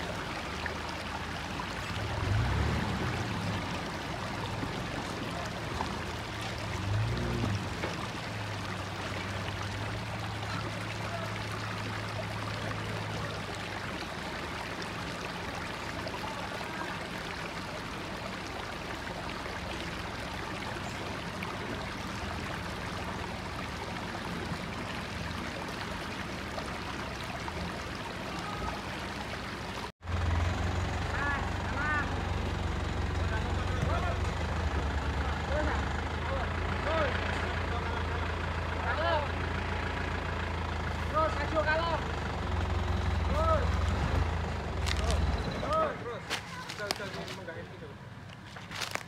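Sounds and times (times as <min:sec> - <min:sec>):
creek water rushing: 0:00.0 - 0:49.0
low engine hum: 0:00.0 - 0:49.0.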